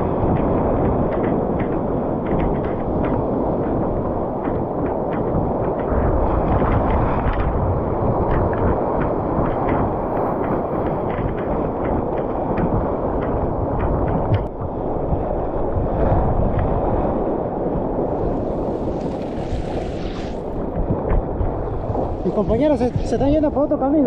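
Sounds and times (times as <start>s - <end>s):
sea surf breaking: 1.7s - 24.0s.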